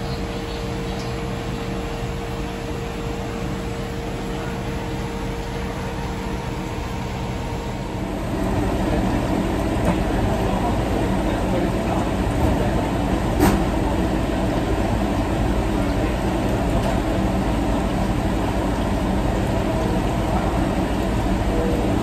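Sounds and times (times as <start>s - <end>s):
kitchen exhaust hood roaring: 0.0s - 22.0s.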